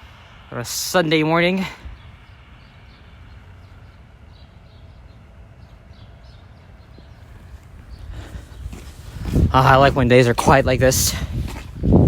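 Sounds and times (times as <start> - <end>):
low steady street rumble: 0.0 - 12.0.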